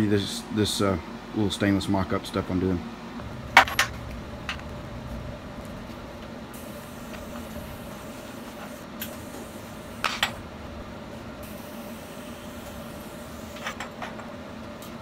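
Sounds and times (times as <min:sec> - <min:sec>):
machine hum: 0:03.0 - 0:15.0.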